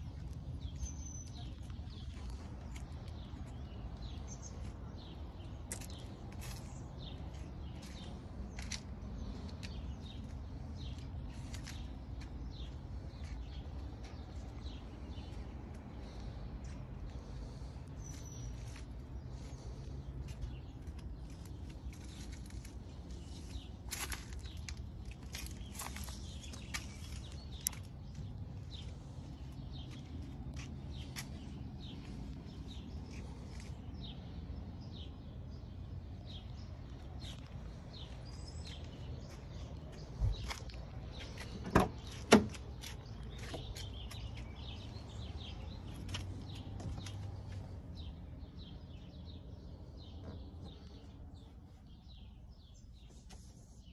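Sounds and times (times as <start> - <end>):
birds chirping: 0.0 - 53.9
low steady background rumble: 0.0 - 53.9.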